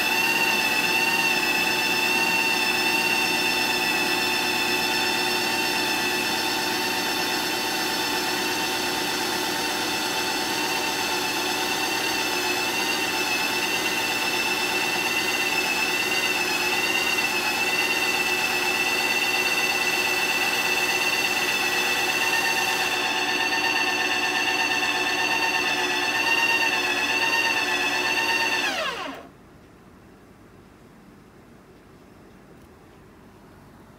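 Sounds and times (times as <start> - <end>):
ice cream maker motor whine: 0.0 - 29.3.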